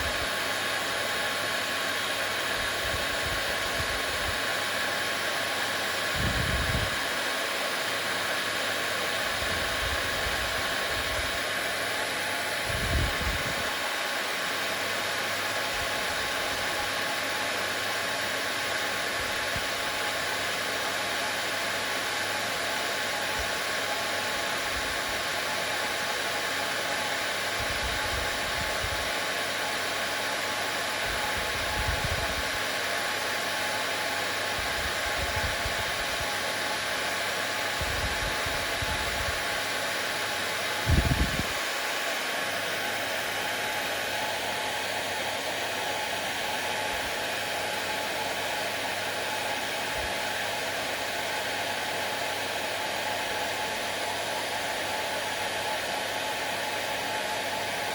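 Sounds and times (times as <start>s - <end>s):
hair dryer running: 0.0s - 57.9s.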